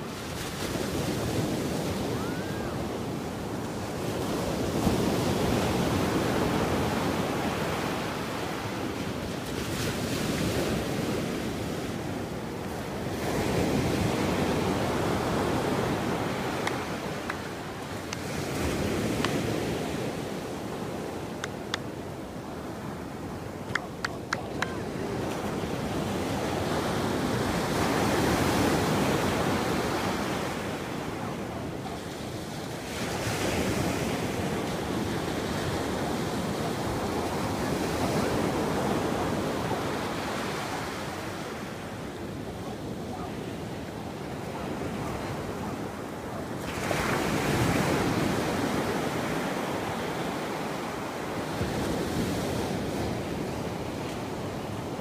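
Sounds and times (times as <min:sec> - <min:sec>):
waves breaking on sand: 0:00.0 - 0:55.0.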